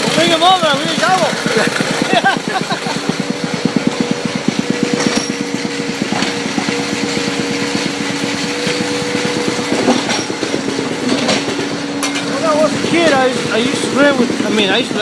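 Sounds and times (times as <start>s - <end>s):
heavy machinery engine chugging: 0.0s - 15.0s.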